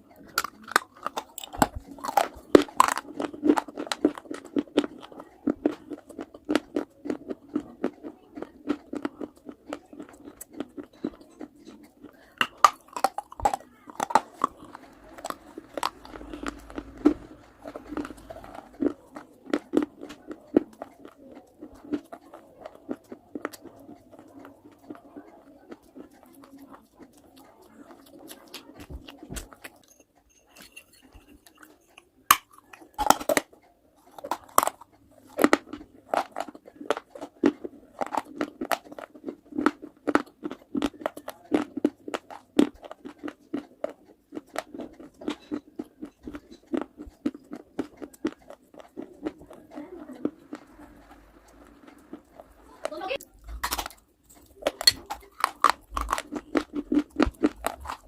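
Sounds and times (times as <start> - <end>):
crunching and chewing hard clay: 0.0 - 58.0.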